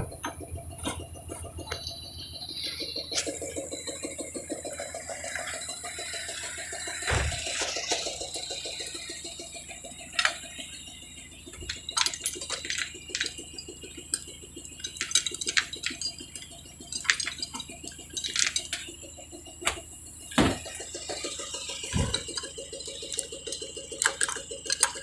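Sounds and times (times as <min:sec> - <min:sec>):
fast steady rattle: 0:00.0 - 0:25.0
metal tools clinking and knocking: 0:00.0 - 0:25.0.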